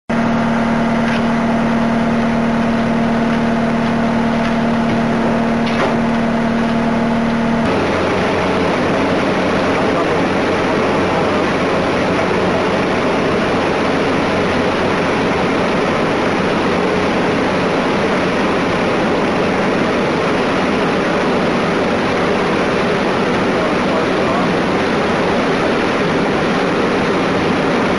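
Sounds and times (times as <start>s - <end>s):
paving machinery engines: 0.1s - 27.9s.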